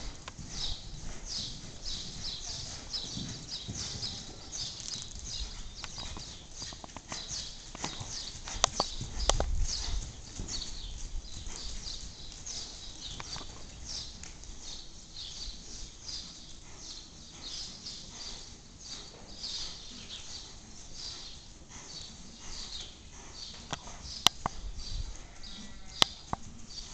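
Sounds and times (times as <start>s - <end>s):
horse hoofbeats trotting on sand: 0.0s - 26.9s.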